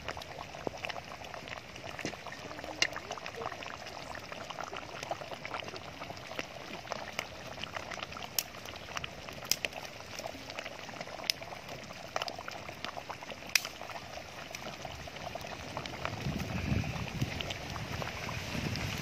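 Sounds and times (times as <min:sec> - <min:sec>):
curry bubbling in a pot: 0:00.0 - 0:19.0.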